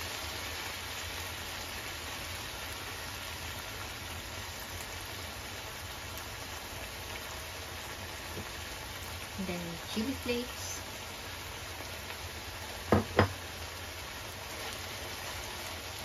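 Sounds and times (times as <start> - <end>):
meat and tomatoes sizzling in a pan: 0.0 - 16.0.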